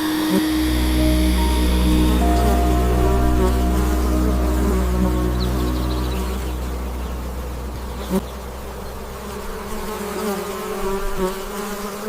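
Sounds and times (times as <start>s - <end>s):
low steady drone: 0.0s - 11.2s
bee buzzing: 0.0s - 12.0s.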